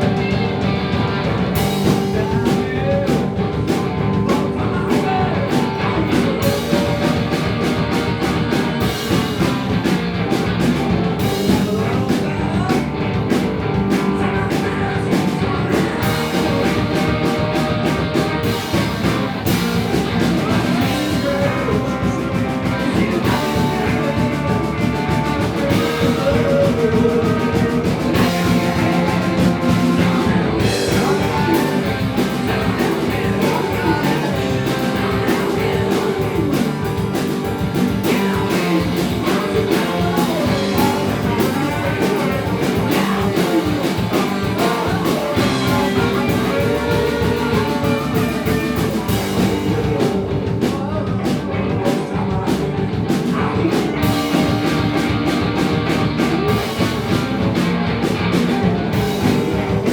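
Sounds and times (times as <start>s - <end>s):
live rock band playing: 0.0s - 59.9s
steady drum beat: 0.0s - 59.9s.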